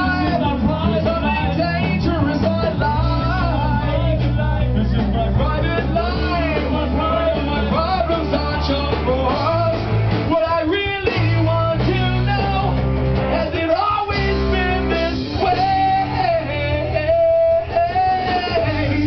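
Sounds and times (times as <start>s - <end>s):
bass notes: 0.0s - 19.0s
electric guitar: 0.0s - 19.0s
person singing: 0.0s - 19.0s.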